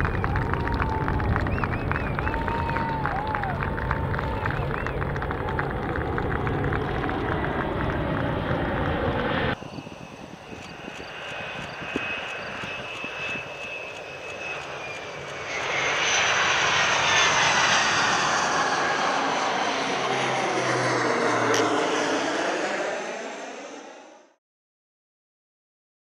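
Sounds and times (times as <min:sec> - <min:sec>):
jet engine whining: 0:00.0 - 0:24.4.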